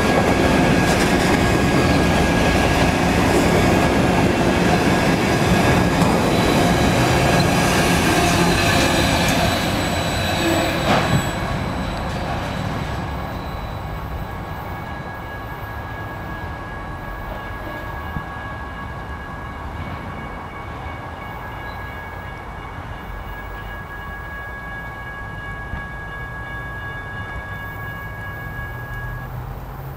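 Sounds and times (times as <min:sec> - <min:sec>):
train rolling on tracks: 0:00.0 - 0:29.9.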